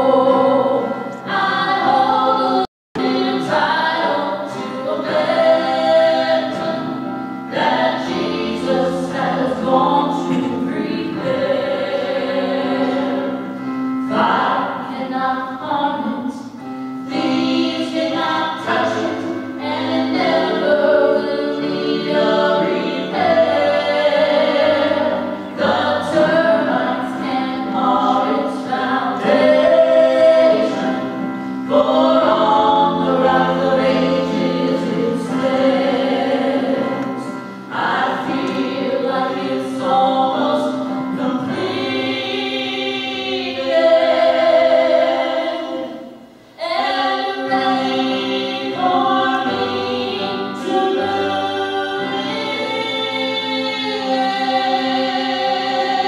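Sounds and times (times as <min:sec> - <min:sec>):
digital piano: 0:00.0 - 0:56.0
woman and man singing gospel duet: 0:00.0 - 0:56.0.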